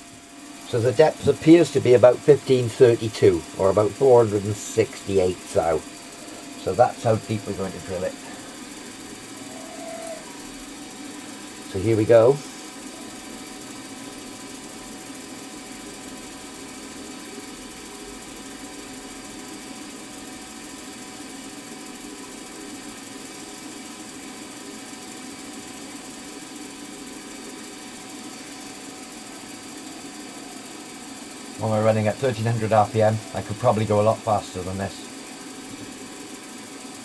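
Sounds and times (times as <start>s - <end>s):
drill feeding into metal: 0.0s - 37.0s
milling machine spindle running: 0.0s - 37.0s.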